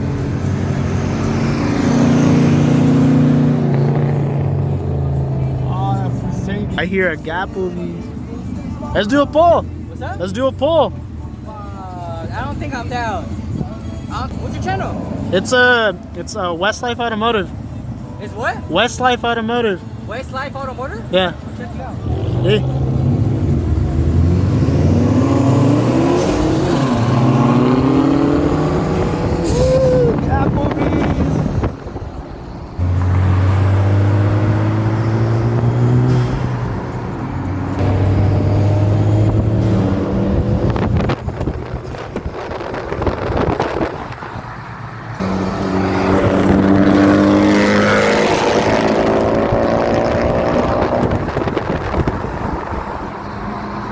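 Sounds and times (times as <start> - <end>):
car engine accelerating: 0.0 - 11.3, 20.8 - 53.9.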